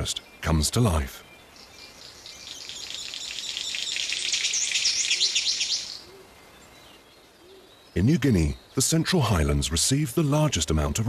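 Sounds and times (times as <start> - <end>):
bird singing high chirps: 0.0 - 9.5.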